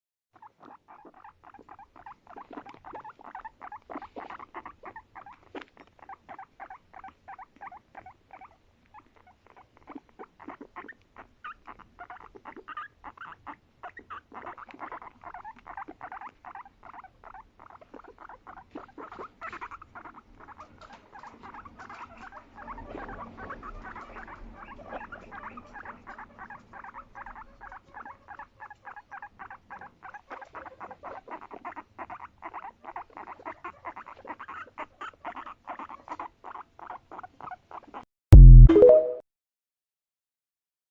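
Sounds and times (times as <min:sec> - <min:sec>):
guinea pig calling: 0:00.4 - 0:38.5.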